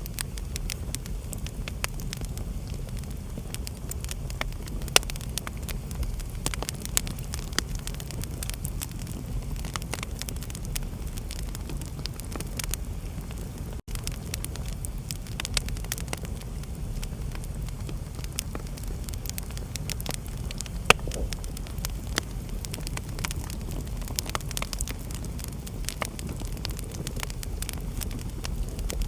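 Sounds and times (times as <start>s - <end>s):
low fire rumble: 0.0s - 29.0s
wood fire crackling and popping: 0.0s - 29.0s.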